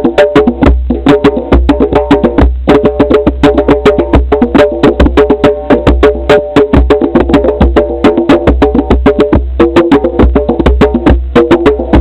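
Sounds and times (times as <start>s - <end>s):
rhythmic percussion music: 0.0s - 12.0s.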